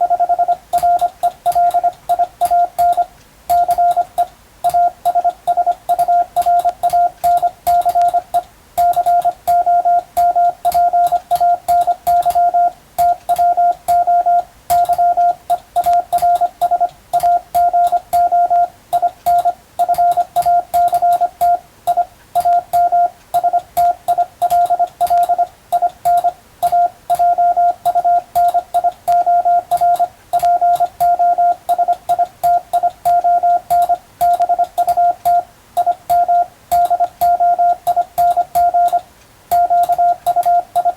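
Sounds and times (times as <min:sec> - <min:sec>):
morse code sidetone beeps: 0:00.0 - 0:40.9
telegraph key clicks: 0:00.5 - 0:14.1, 0:14.7 - 0:18.3, 0:18.9 - 0:40.9.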